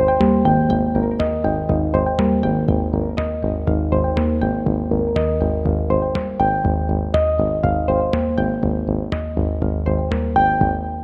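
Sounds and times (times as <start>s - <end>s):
melody over steady beat: 0.0s - 11.0s.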